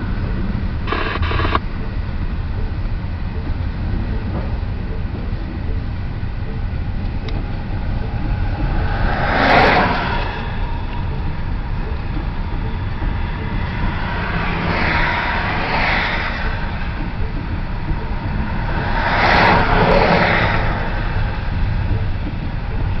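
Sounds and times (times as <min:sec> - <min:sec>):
rushing noise: 0:00.0 - 0:23.0
freight train rumbling past: 0:02.1 - 0:23.0.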